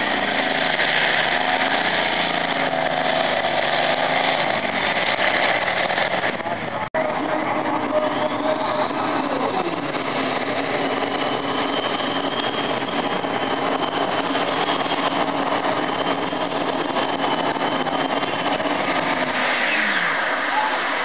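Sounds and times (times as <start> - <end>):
high whine: 0.0 - 21.0
pulling tractor engine roaring: 0.0 - 21.0.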